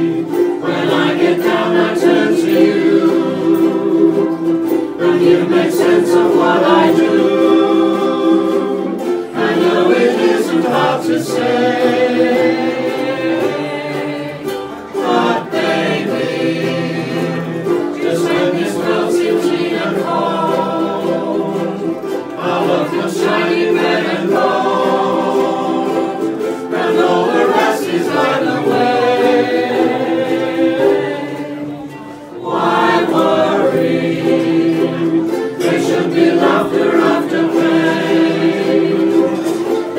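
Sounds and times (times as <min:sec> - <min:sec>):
group of voices singing: 0:00.0 - 0:39.9
ukuleles strumming chords: 0:00.0 - 0:39.9.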